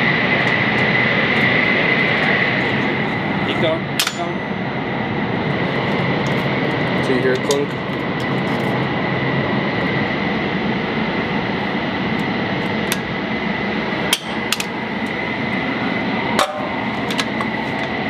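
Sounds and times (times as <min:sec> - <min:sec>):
thin high whine: 0:00.0 - 0:07.3, 0:08.0 - 0:18.0
loud mechanical hum: 0:00.0 - 0:18.0.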